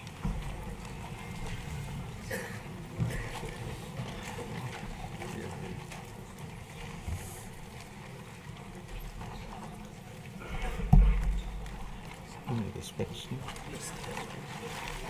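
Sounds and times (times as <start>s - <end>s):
low hum of large hall: 0.0s - 15.0s.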